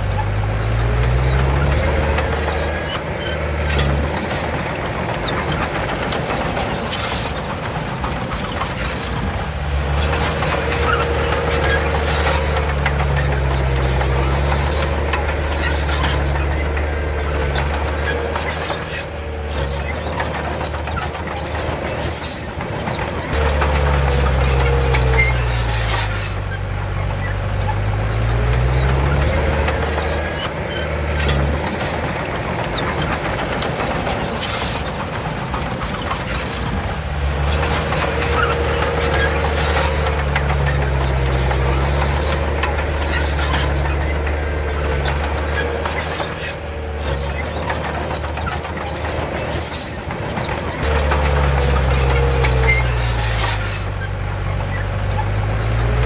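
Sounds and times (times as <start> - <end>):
bulldozer diesel engine: 0.0 - 56.0
steel tracks squealing and rattling: 0.0 - 56.0.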